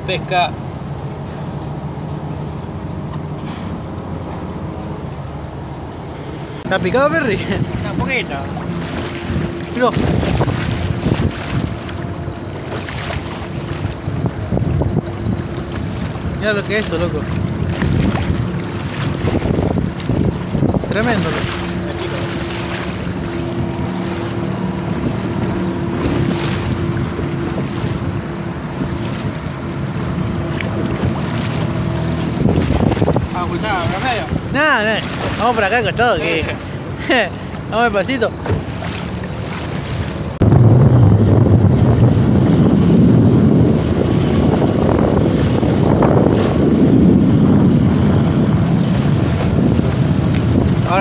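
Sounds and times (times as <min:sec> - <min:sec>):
outboard motor running: 0:00.0 - 0:51.0
water splashing against hull: 0:00.0 - 0:51.0
wind buffeting microphone: 0:00.9 - 0:51.0.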